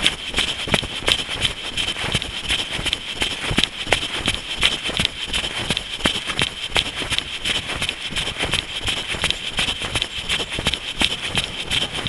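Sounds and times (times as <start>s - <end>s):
running footfalls: 0.0s - 12.0s.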